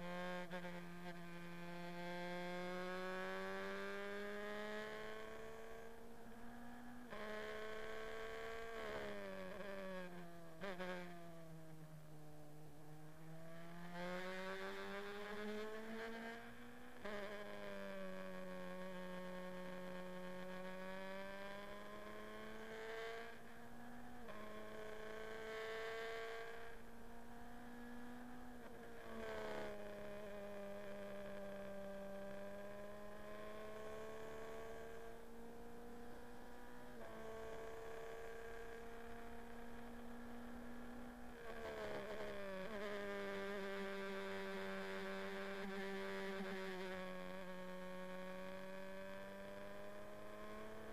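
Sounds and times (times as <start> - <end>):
race car engine at high revs: 0.0 - 50.9.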